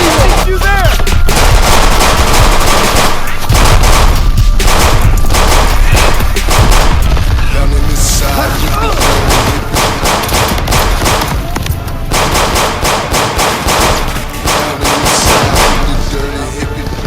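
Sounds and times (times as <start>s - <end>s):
rapid gunfire: 0.0s - 16.2s.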